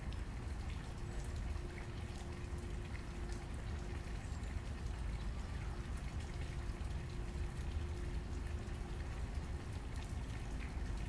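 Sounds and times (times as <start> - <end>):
fountain water splashing into basin: 0.0 - 11.0.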